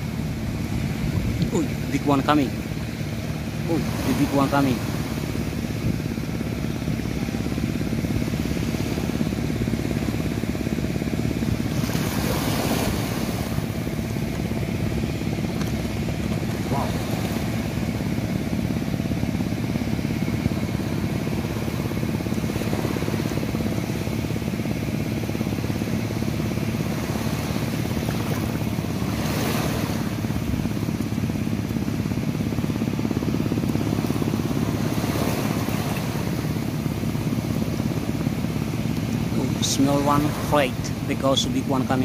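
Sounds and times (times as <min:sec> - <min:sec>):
small waves washing on shore: 0:00.0 - 0:42.0.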